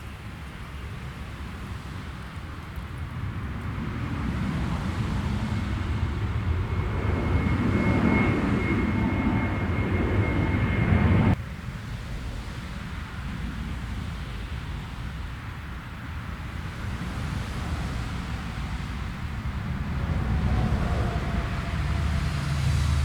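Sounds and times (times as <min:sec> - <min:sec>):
jet engines rumbling and whining: 0:00.1 - 0:23.0.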